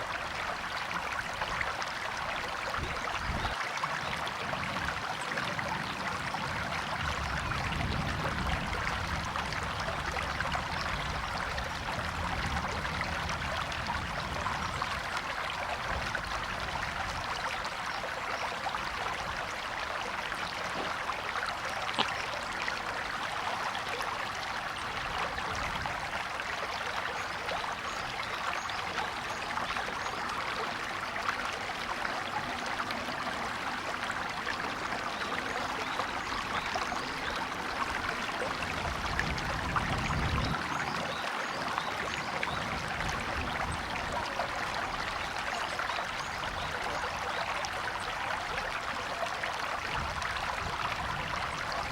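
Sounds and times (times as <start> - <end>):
stream flowing over stones: 0.0 - 51.9.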